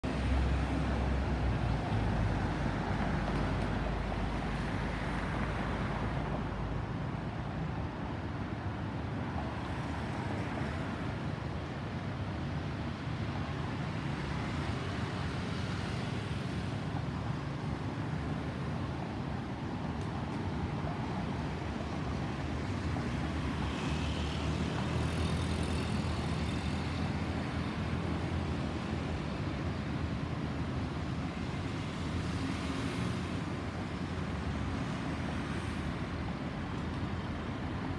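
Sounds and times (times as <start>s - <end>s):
road traffic hum: 0.0s - 37.9s.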